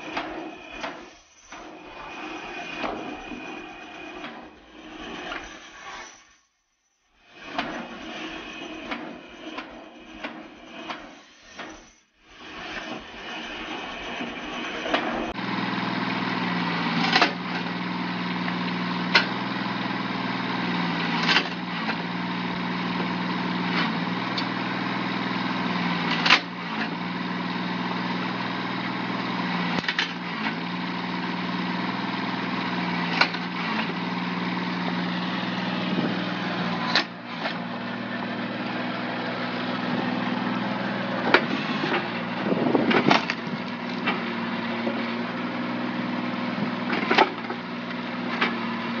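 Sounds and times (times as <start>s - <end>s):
band saw cutting log: 0.0s - 6.4s, 7.3s - 49.0s.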